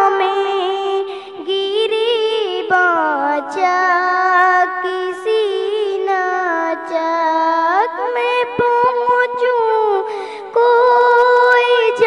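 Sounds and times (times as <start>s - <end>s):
high-pitched devotional singing: 0.0s - 12.0s.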